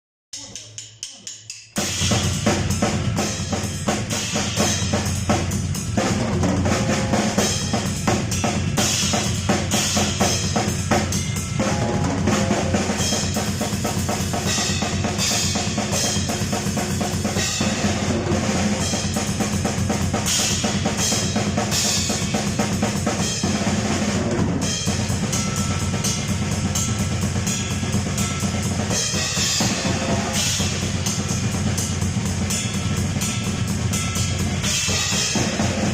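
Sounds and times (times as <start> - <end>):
drum kit groove: 0.3 - 35.9
cymbals wash: 0.4 - 35.9.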